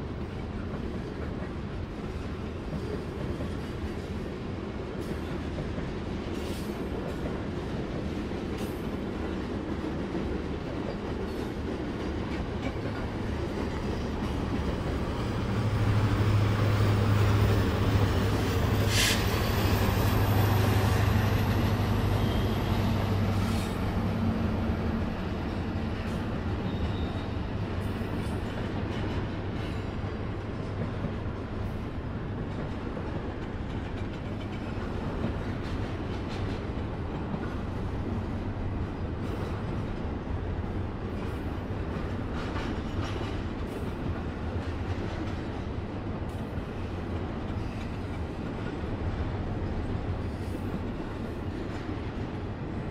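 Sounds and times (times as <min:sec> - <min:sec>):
freight train cars rumbling: 0:00.0 - 0:52.9.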